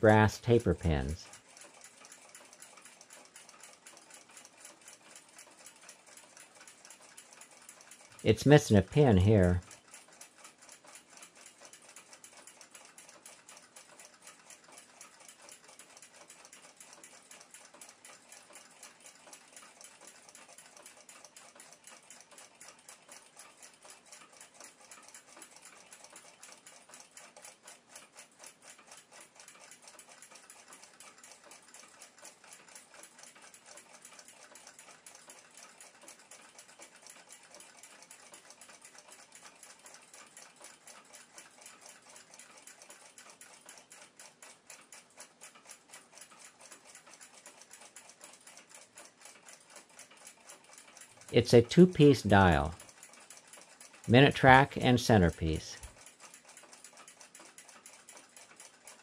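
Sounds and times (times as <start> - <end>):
mechanical clock ticking: 0.0 - 59.0.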